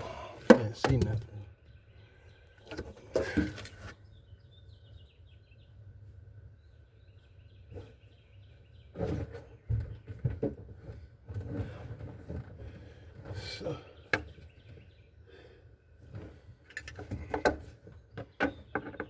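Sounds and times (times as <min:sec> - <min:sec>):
birds chirping faintly: 0:00.0 - 0:19.0.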